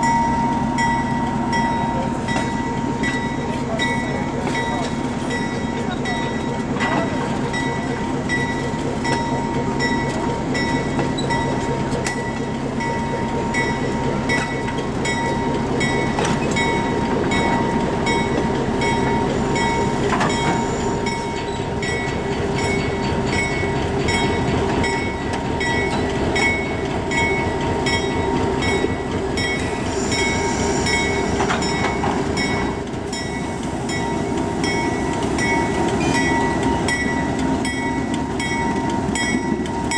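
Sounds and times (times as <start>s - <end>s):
diesel train running: 0.0s - 39.9s
wheels ticking on track: 0.0s - 39.9s.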